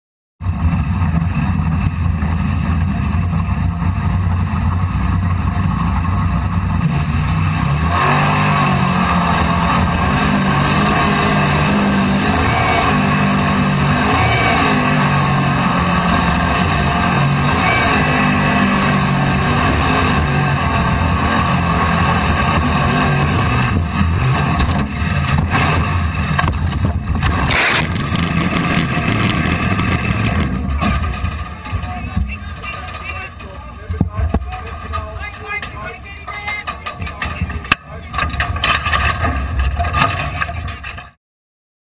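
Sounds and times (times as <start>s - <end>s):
boat engine revving: 0.5s - 41.0s.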